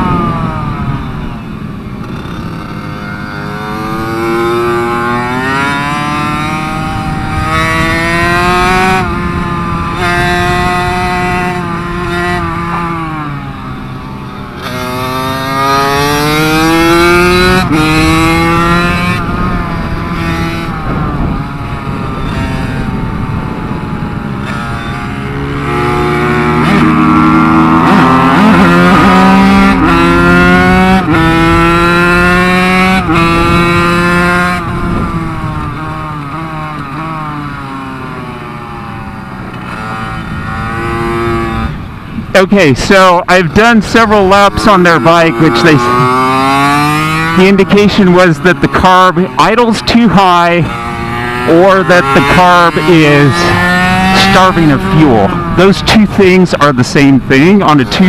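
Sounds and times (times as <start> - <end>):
two-stroke motorbike engine accelerating: 0.0 - 58.0.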